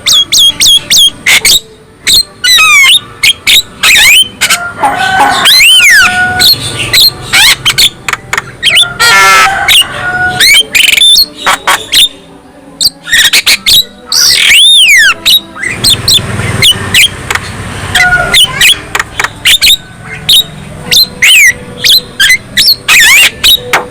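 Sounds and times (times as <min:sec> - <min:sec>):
bird singing chatters and whistles: 0:00.0 - 0:04.5, 0:05.3 - 0:23.9.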